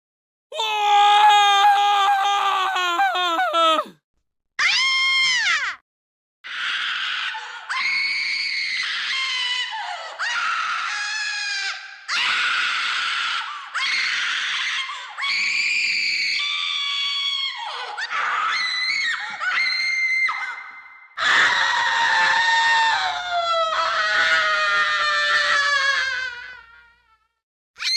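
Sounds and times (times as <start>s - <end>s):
screams: 0.6s - 3.9s, 6.5s - 26.8s.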